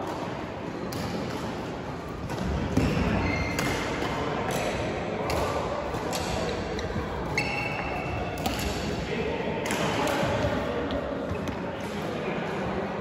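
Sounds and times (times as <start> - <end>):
rackets hitting shuttlecock: 0.1 - 12.7.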